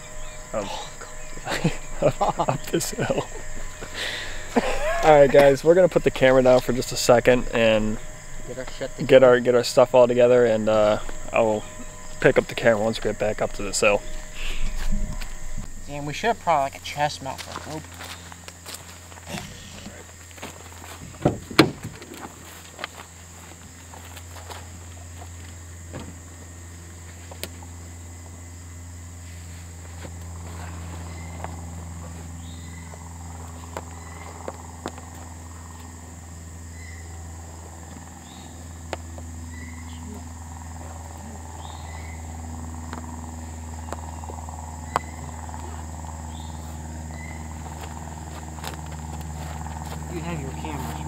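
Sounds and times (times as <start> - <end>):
short insect chirps: 0.0 - 21.0, 22.0 - 50.8
crickets trilling: 0.0 - 51.0
low steady hum: 0.0 - 51.0.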